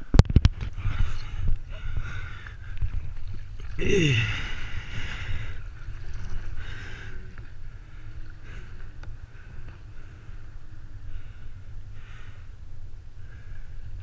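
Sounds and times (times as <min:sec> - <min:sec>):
steady low rumble: 0:00.0 - 0:14.0
kayak paddle splashing: 0:00.5 - 0:12.4.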